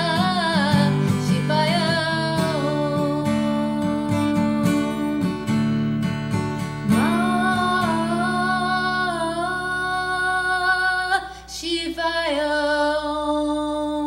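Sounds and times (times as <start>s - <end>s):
woman singing: 0.0s - 5.7s, 6.8s - 14.0s
acoustic guitar strumming: 0.0s - 11.4s.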